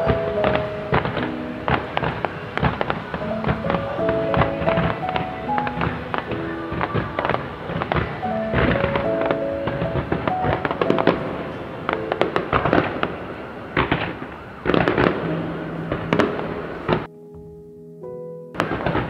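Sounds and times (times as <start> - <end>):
fireworks bursting: 0.0 - 17.1, 18.6 - 19.0
music: 0.0 - 19.0.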